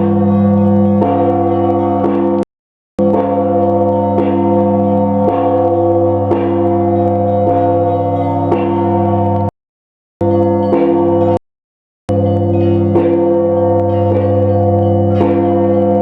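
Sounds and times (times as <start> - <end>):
church bells ringing: 0.0 - 2.4, 3.0 - 9.5, 10.2 - 11.4, 12.1 - 16.0.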